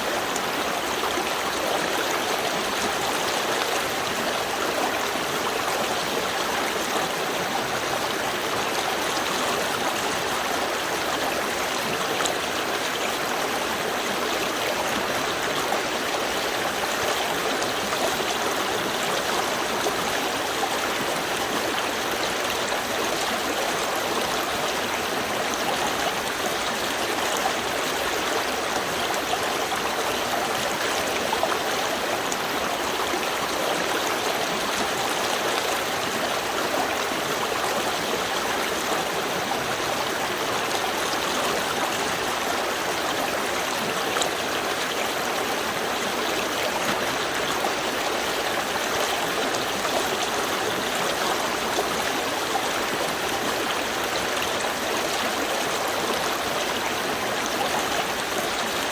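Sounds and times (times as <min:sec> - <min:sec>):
stream flowing over stones: 0:00.0 - 0:58.9.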